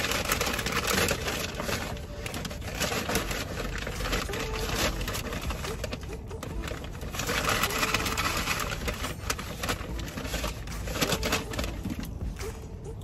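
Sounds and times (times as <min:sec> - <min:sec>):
paper bag rustling: 0:00.0 - 0:12.6.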